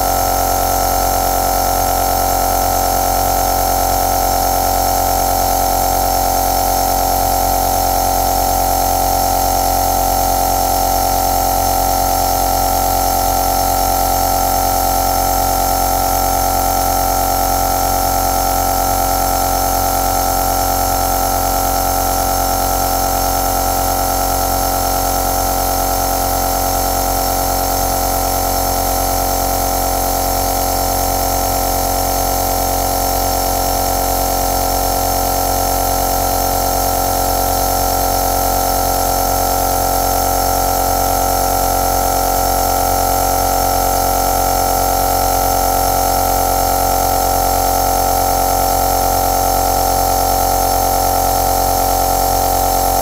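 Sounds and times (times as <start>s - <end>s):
compressor buzzing hum: 0.0s - 53.0s.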